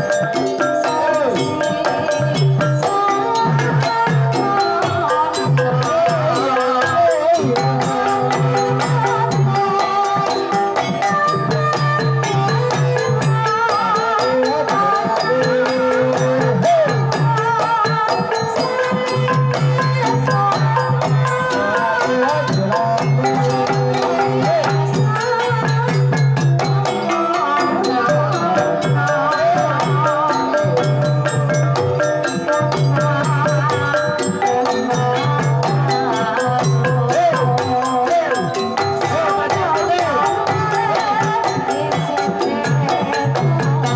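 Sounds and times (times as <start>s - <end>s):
hand drums beating: 0.0s - 43.9s
woman singing: 0.0s - 43.9s.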